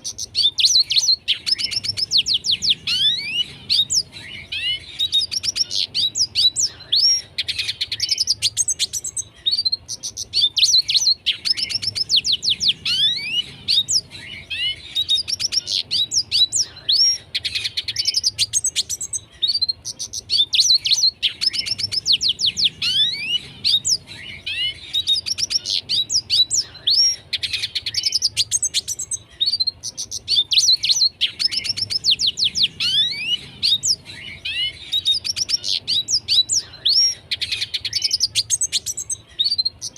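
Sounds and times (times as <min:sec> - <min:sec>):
bird singing twittering phrases: 0:00.0 - 0:39.9.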